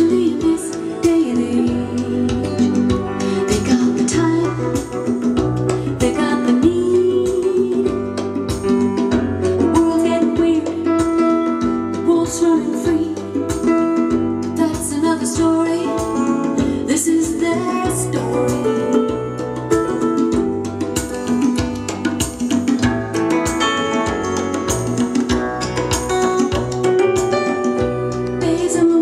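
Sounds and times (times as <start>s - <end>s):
song with guitar and singing: 0.0s - 29.0s.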